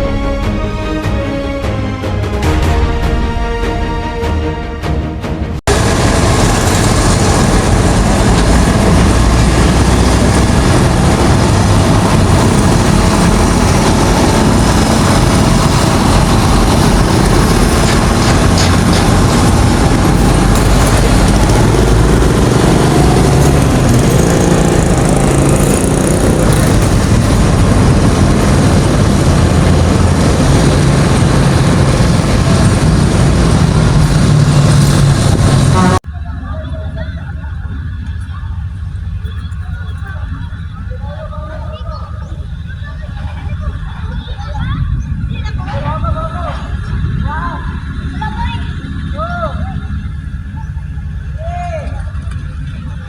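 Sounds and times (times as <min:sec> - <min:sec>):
loud rush of noise: 0:05.6 - 0:53.0
vehicle engine running: 0:05.6 - 0:53.0
low hum: 0:05.7 - 0:53.0.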